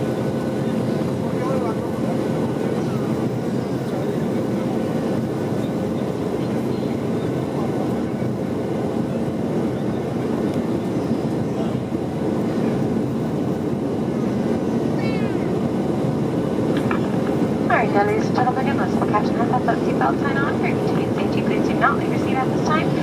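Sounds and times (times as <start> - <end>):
jet engine cabin drone: 0.0 - 23.0.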